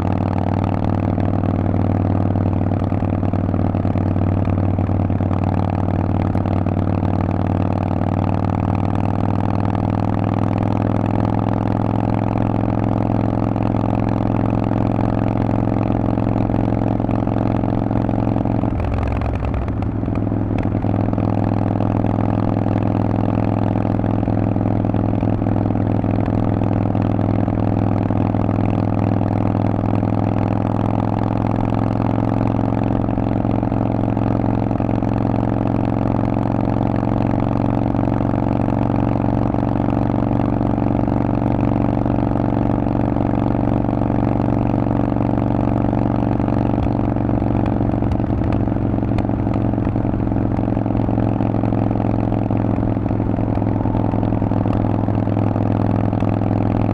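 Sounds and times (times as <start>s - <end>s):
motorcycle engine running loud: 0.0s - 56.9s.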